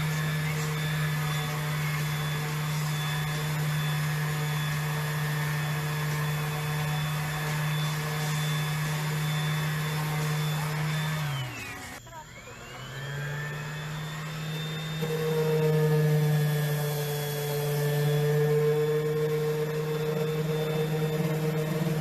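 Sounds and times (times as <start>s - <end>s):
power sander on wood: 0.0s - 22.0s.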